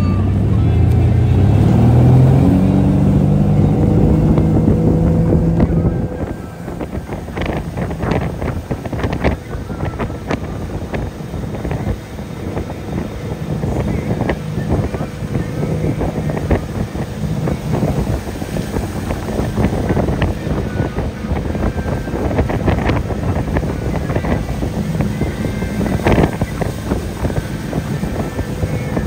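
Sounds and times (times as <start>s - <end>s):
motorboat engine running: 0.0s - 29.0s
wind buffeting microphone: 0.0s - 29.0s
wake rushing and splashing: 0.4s - 29.0s.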